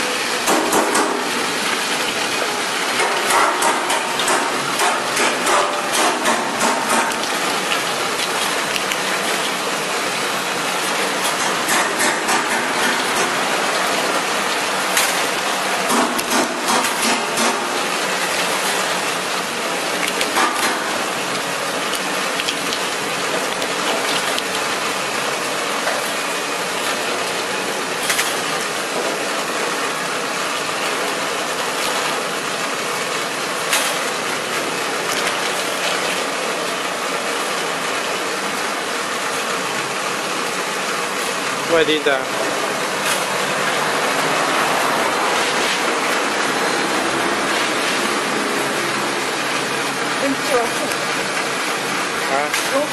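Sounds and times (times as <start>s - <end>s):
rollers and conveyor clattering: 0.0s - 52.9s.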